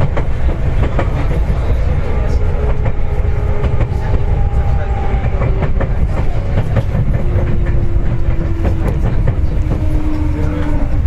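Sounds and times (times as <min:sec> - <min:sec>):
faint train whine: 0:00.0 - 0:11.0
train rumble: 0:00.0 - 0:11.0.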